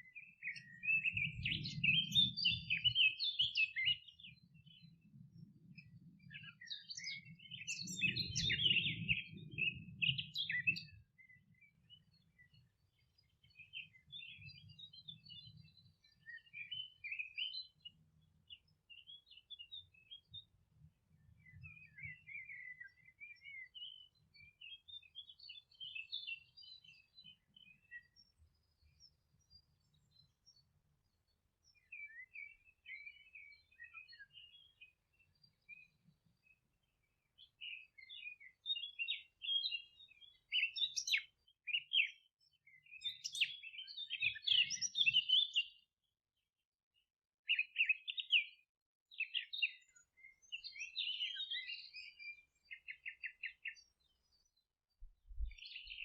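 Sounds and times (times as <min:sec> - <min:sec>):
songbirds twittering: 0:00.0 - 0:46.1, 0:47.0 - 0:56.0.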